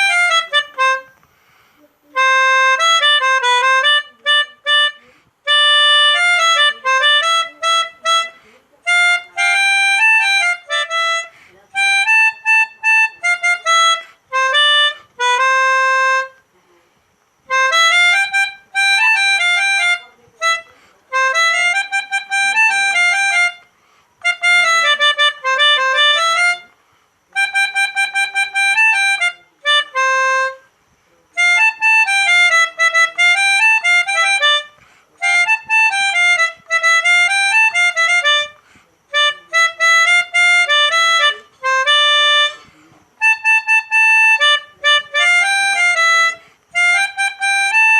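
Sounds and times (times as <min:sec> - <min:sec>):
melodica playing short phrases: 0:00.0 - 0:16.6, 0:17.4 - 0:47.9.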